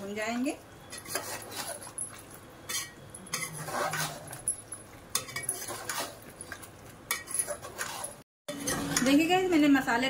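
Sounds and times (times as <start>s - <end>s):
metal ladle scraping a pot: 0.8s - 9.3s.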